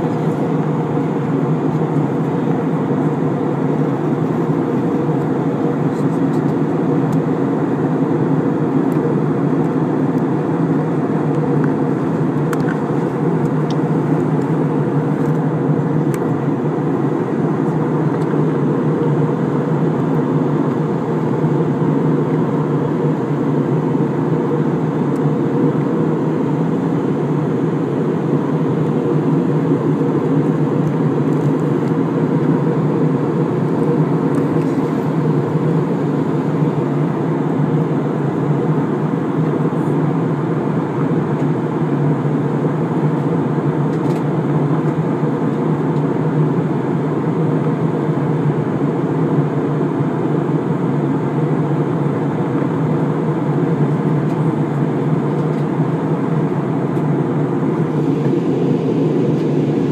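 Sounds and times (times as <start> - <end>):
airliner engine roar in cabin: 0.0 - 59.9.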